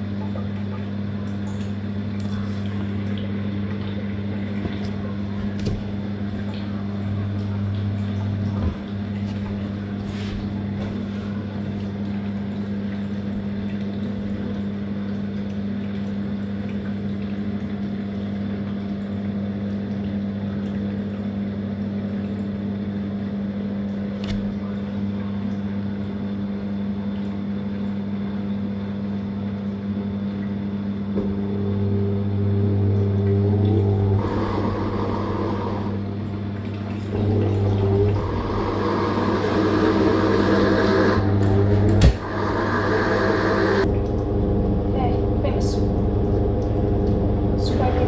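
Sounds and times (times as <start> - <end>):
washing machine motor hum: 0.0 - 48.0.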